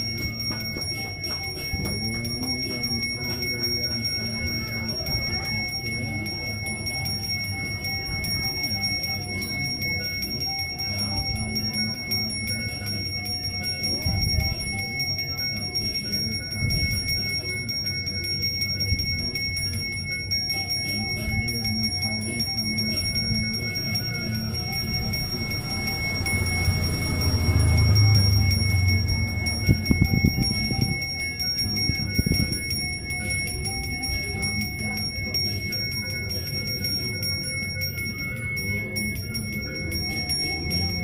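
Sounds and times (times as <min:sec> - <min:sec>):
handheld bell ringing: 0:00.0 - 0:41.0.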